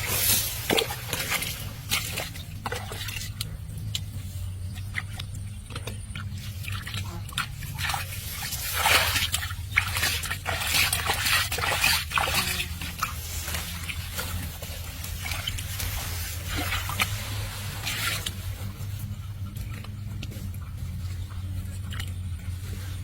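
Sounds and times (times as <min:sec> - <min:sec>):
splashing in muddy water: 0:00.0 - 0:23.0
steady low hum: 0:00.0 - 0:23.0.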